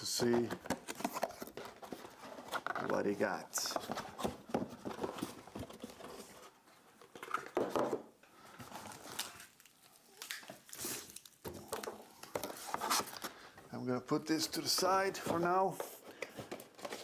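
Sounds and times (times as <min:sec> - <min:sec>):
cardboard packaging rustling: 0:00.0 - 0:17.0.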